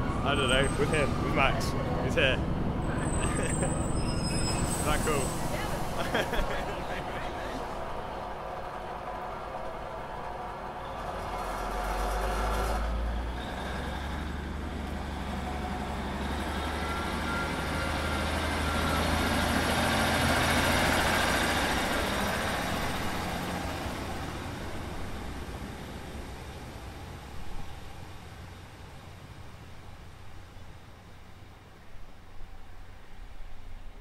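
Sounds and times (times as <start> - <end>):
diesel train engine rumbling: 0.0 - 33.1.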